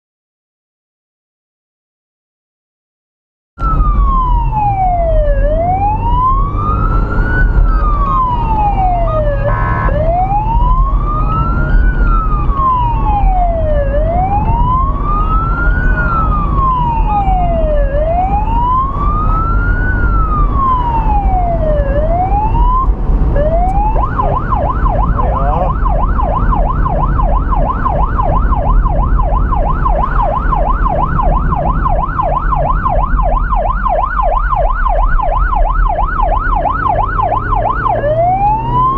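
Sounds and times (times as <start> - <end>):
car engine and tyre noise: 3.6 - 38.9
police siren wailing and yelping: 3.6 - 38.9.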